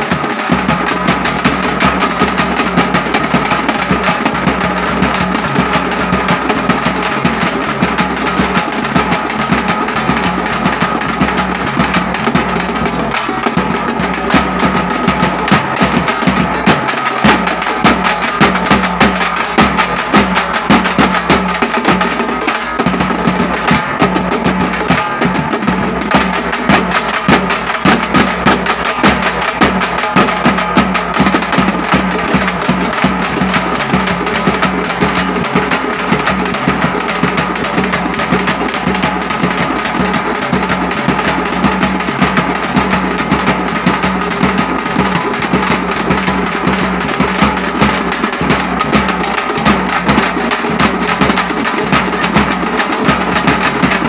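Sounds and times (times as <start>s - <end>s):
frame drums beaten with sticks: 0.0s - 54.0s
steel drum: 0.0s - 54.0s.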